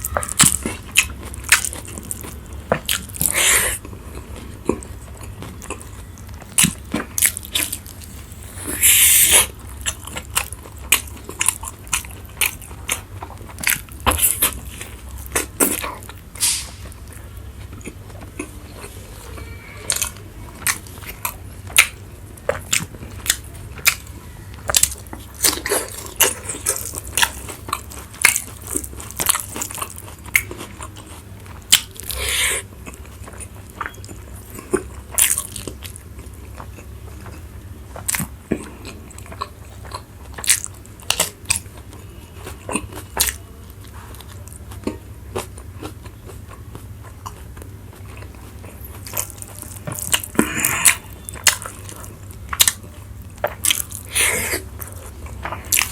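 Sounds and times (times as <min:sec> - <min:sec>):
crunchy chewing: 0:00.0 - 0:55.9
steady low hum: 0:00.0 - 0:55.9.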